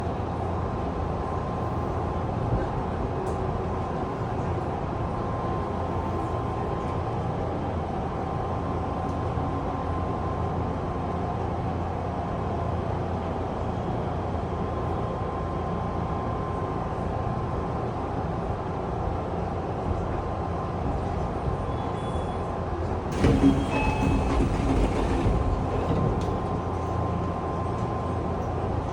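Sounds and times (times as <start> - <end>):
commuter train rumbling: 0.0 - 28.9.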